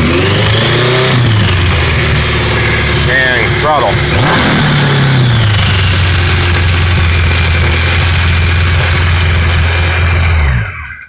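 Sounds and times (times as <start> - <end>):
motor trike engine idling: 1.2 - 11.0.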